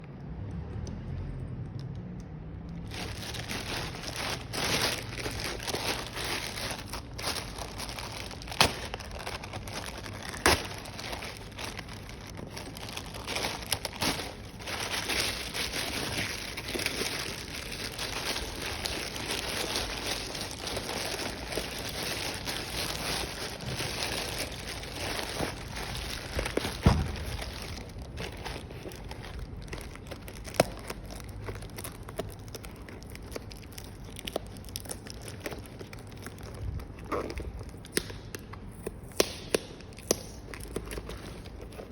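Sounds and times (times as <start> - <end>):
plastic and paper rustling: 2.8 - 38.3, 39.9 - 41.9.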